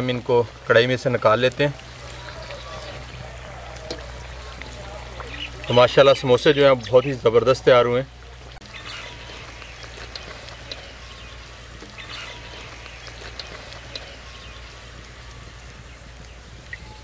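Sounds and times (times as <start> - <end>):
oil sizzling while deep-frying: 0.0 - 17.0.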